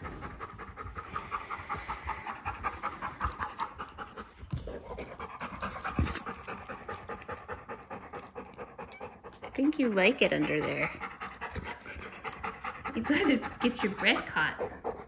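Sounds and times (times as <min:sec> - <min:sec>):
dog panting rapidly: 0:00.0 - 0:15.0.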